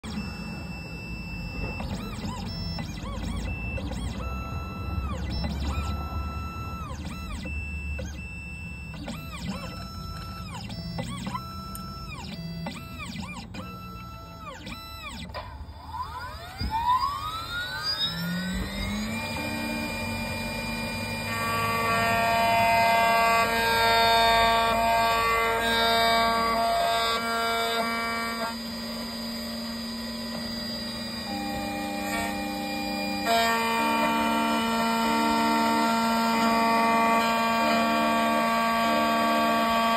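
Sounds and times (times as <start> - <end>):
cutter spindle high whine: 0.0 - 39.9
machine motors whining: 0.0 - 39.9.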